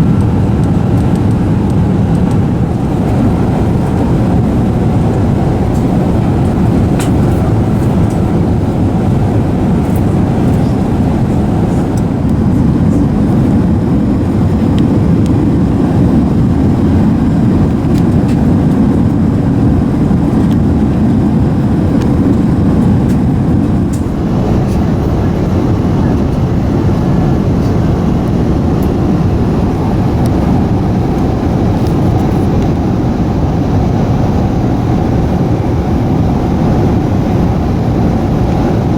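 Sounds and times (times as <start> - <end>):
aircraft cabin engine noise: 0.0 - 38.9.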